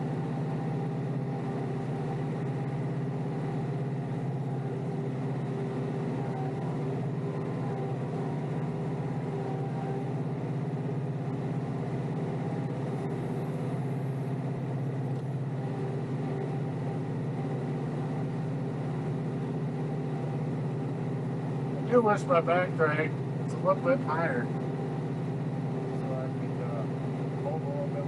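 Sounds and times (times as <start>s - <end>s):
tractor diesel engine droning: 0.0s - 28.0s.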